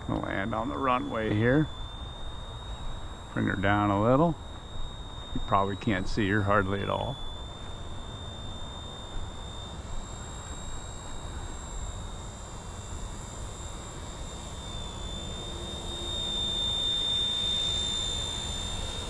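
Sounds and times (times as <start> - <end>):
rc helicopter whining: 0.0 - 19.0.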